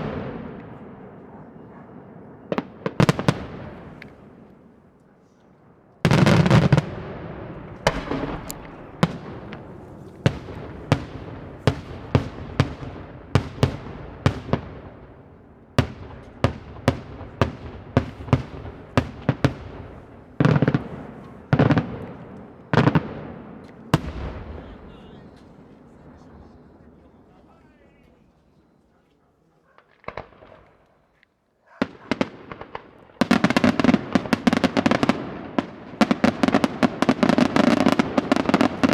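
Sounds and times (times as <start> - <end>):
rapid-fire firework bangs: 0.0 - 4.5, 6.0 - 25.7, 29.8 - 30.8, 31.7 - 38.9
echoing firework bangs: 0.0 - 4.8, 6.0 - 26.6, 29.8 - 30.9, 31.7 - 38.9
fireworks heavy blast: 0.0 - 5.0, 5.8 - 28.1, 31.7 - 38.9.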